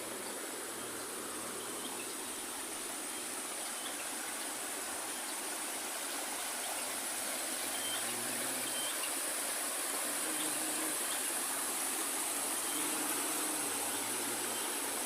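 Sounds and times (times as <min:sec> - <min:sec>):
constant high hiss: 0:00.0 - 0:15.0
water rushing: 0:00.0 - 0:15.0.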